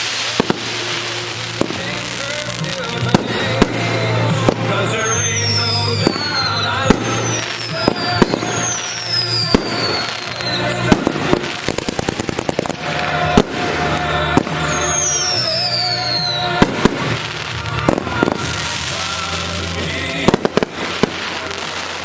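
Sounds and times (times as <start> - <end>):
fireworks bangs: 0.0 - 22.0
fireworks crackling: 0.0 - 22.0
music: 0.0 - 22.0.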